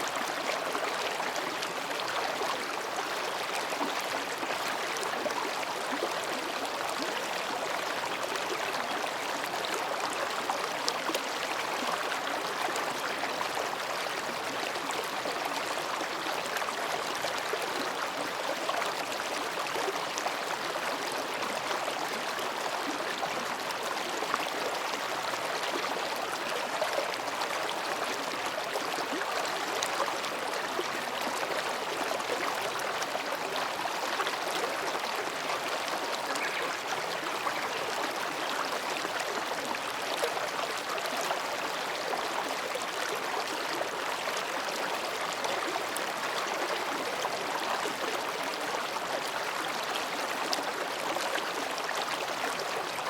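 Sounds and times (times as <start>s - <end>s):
stream babbling over rocks: 0.0s - 53.0s.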